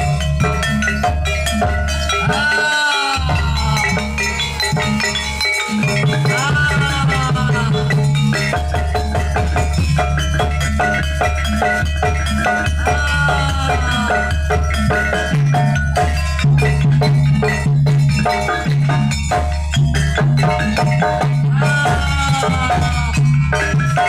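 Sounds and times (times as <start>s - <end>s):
drums: 0.0s - 24.0s
metallophones ringing patterns: 0.0s - 24.0s.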